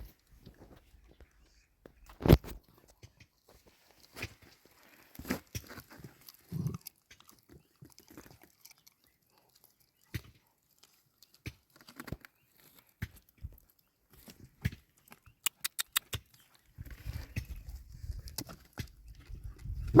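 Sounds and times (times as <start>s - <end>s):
puppies chewing and crunching food: 0.0s - 20.0s.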